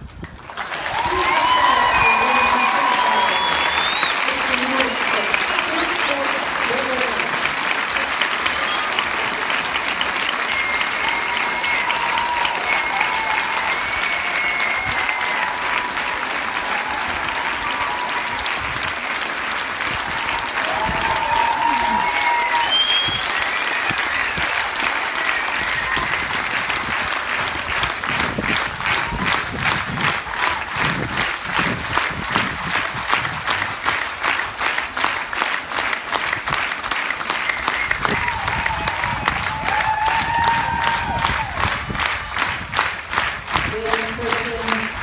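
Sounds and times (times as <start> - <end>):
spectators applauding: 0.0 - 45.0.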